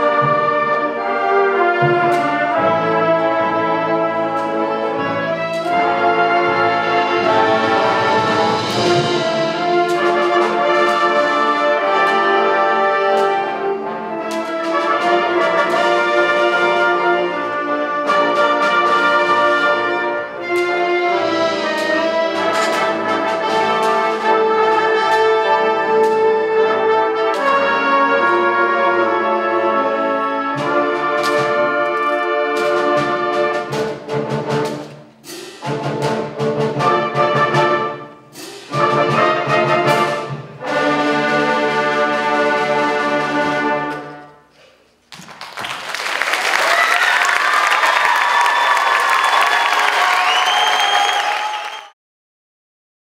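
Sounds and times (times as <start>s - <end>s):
symphonic band playing: 0.0s - 45.0s, 45.8s - 51.8s.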